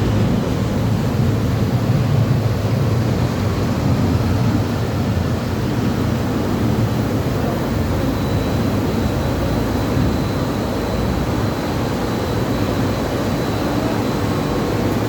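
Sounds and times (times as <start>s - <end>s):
machinery rumbling and hissing: 0.0s - 15.0s.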